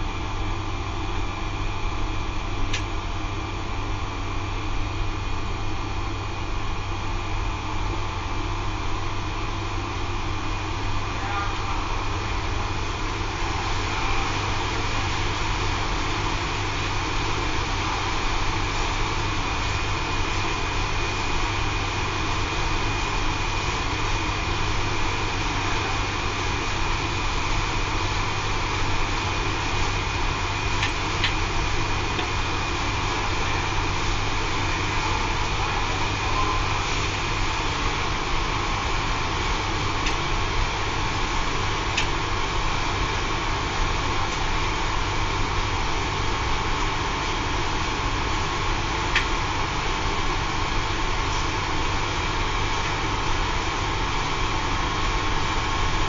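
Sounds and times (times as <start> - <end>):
circulation pump humming: 0.0 - 56.0.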